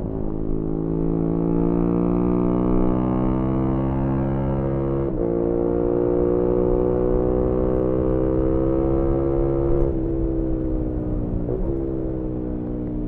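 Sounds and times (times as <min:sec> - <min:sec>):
motorcycle engine while riding: 0:00.0 - 0:13.0.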